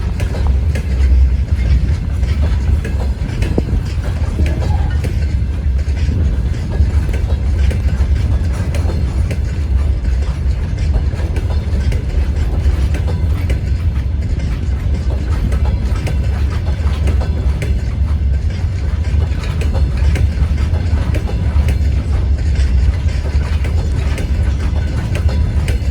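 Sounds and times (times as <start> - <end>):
low train rumble: 0.0 - 25.9
train wheels clattering on rails: 0.0 - 25.9.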